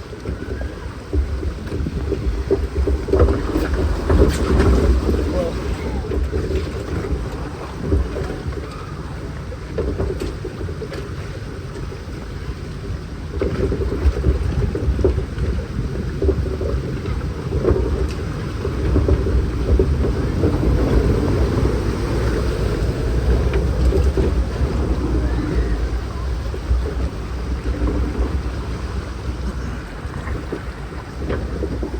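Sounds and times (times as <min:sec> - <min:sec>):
boat low rumble: 0:00.0 - 0:31.9
rushing splashing water: 0:00.0 - 0:31.9.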